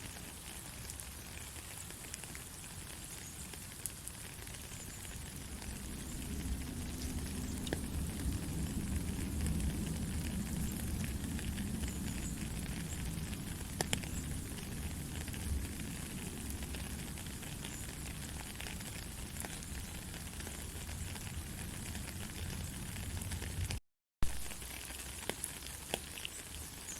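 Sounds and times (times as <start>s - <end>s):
rain on foliage: 0.0s - 26.9s.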